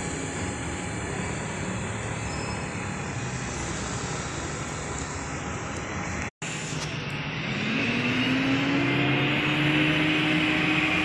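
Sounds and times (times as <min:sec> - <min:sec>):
bus diesel engine running: 0:00.0 - 0:11.0
roadside traffic noise: 0:00.0 - 0:11.0
vehicle engine whine: 0:00.0 - 0:11.0.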